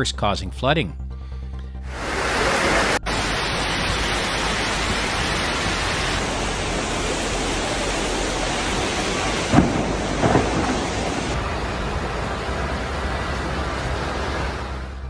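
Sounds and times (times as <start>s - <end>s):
floodwater rushing: 1.9s - 15.0s.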